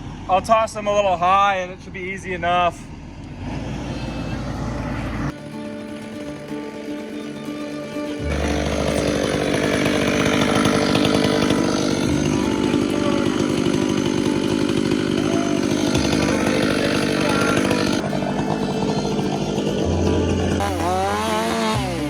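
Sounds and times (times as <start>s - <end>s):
chainsaw cutting timber: 3.2s - 22.0s.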